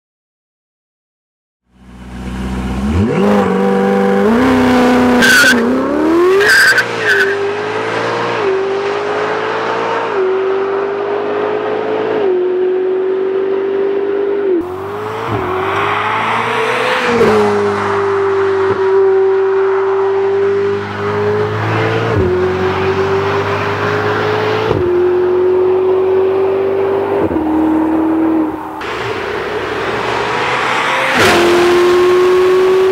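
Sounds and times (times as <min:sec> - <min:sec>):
sports car accelerating: 0:01.8 - 0:32.9.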